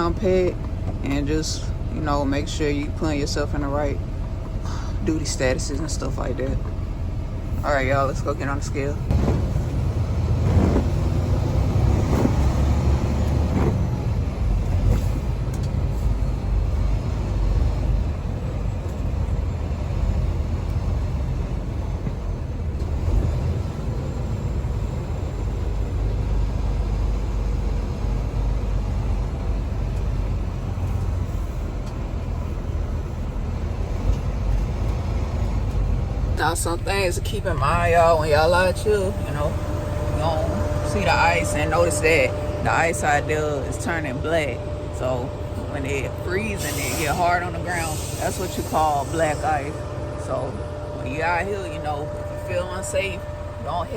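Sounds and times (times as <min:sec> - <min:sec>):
truck diesel engine rumbling: 0:00.0 - 0:53.9.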